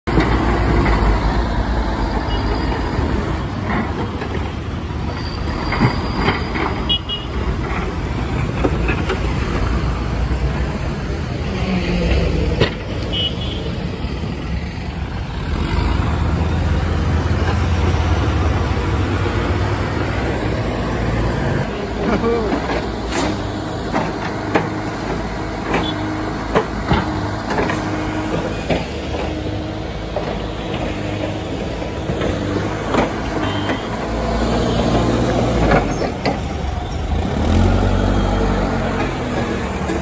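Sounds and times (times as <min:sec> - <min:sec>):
diesel engine running under load: 0:00.1 - 0:40.0.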